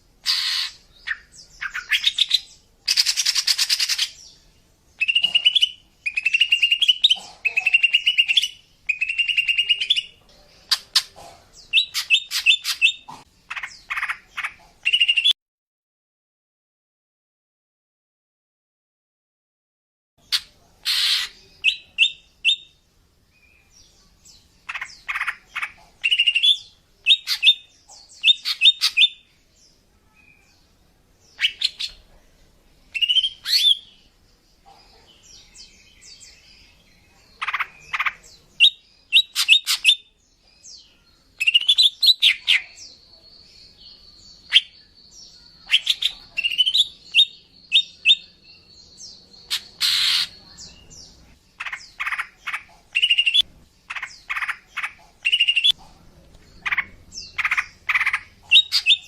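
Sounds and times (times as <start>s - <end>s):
bird chirping calls: 0.0s - 15.4s, 20.2s - 59.0s.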